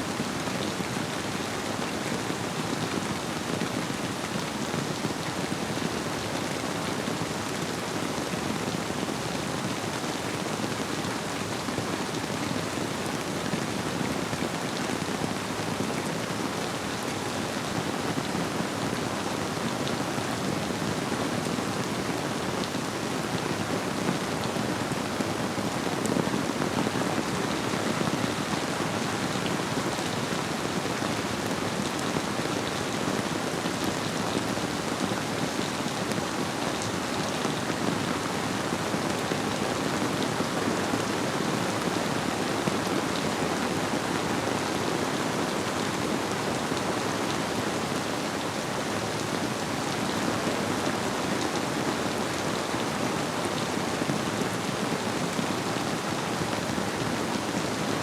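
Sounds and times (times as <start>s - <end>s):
rain pattering: 0.1s - 57.6s.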